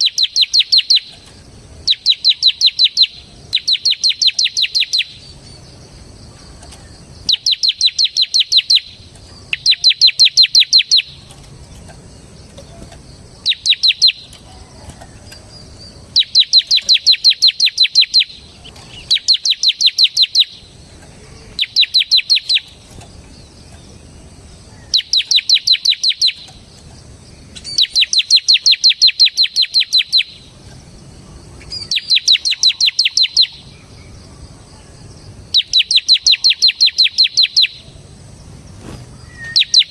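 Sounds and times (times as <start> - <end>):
bird singing rapid high chips: 0.0 - 14.5, 15.3 - 39.9.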